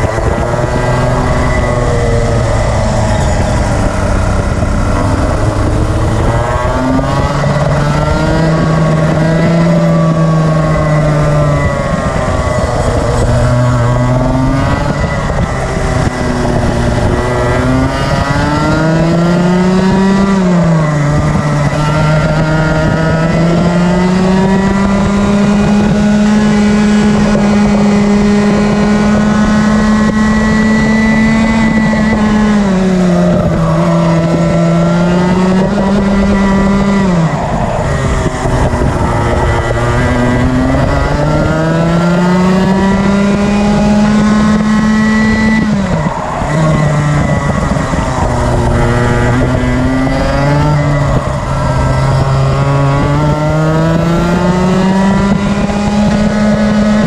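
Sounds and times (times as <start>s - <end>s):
kart engine racing: 0.0s - 57.0s.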